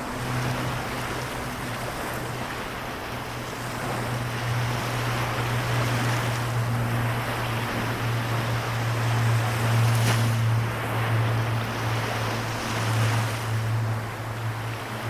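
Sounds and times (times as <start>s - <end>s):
sea waves surf: 0.0s - 15.0s.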